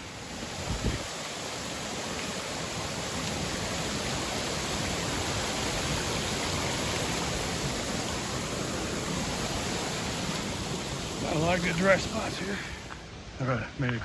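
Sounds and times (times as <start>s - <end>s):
creek water rushing over waterfall: 0.0s - 14.0s.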